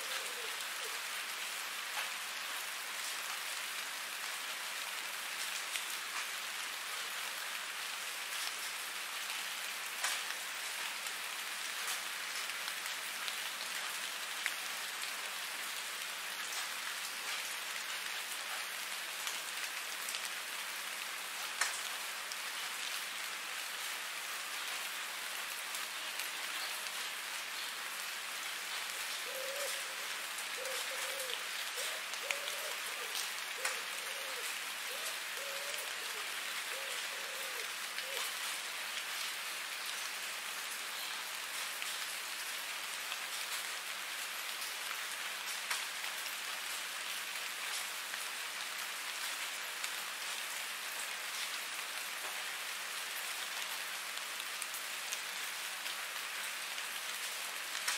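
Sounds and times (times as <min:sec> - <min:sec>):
rain on a hard surface: 0:00.0 - 0:57.9.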